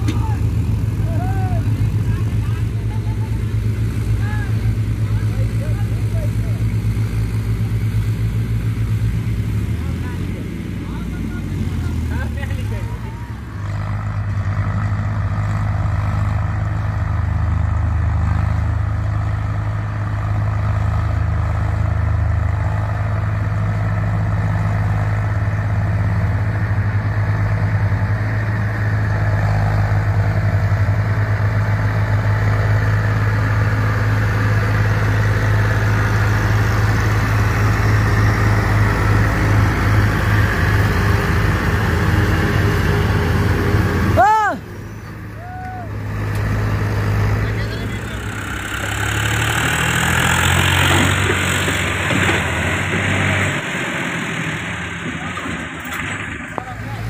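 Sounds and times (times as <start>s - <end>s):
combine harvester working: 0.0s - 57.0s
tractor engine running: 0.0s - 57.0s.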